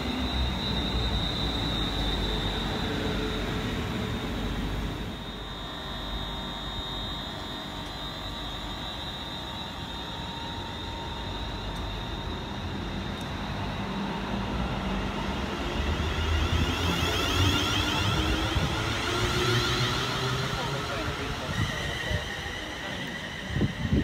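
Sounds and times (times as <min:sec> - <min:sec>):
thin high whine: 0:00.0 - 0:24.0
train wheels rumbling: 0:00.0 - 0:24.0.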